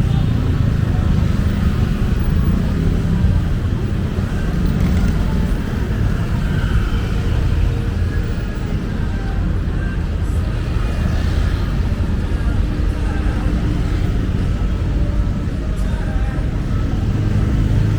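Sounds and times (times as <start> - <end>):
faint voices: 0.0 - 17.9
road traffic rumble: 0.0 - 17.9.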